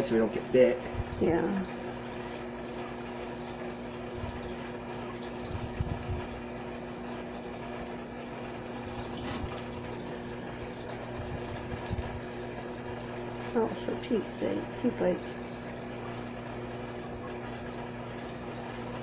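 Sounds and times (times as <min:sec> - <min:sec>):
water pump humming: 0:00.0 - 0:19.0.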